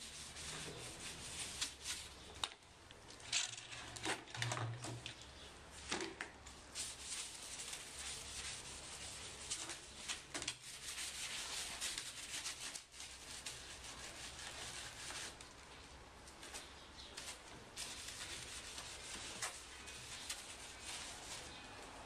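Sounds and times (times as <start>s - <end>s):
rustling and scraping: 0.0s - 22.0s.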